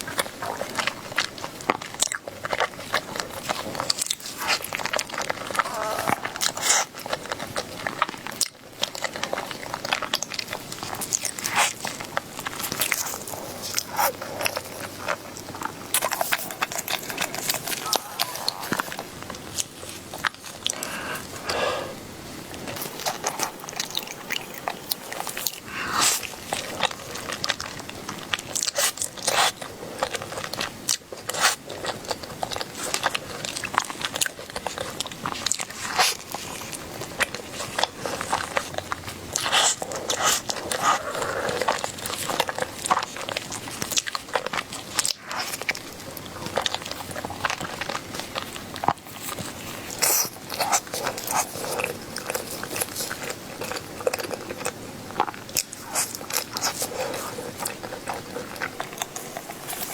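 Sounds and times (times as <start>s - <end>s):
person biting and chewing food: 0.0s - 59.9s.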